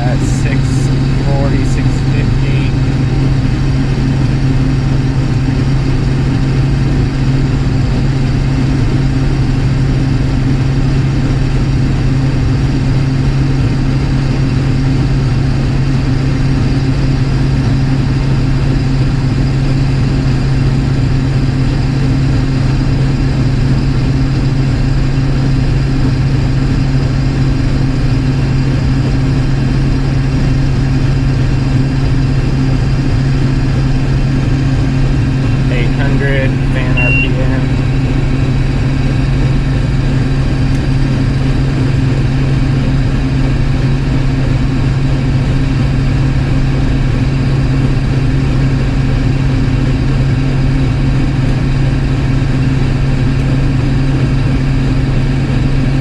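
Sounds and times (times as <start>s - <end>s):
combine harvester low hum: 0.0s - 56.0s.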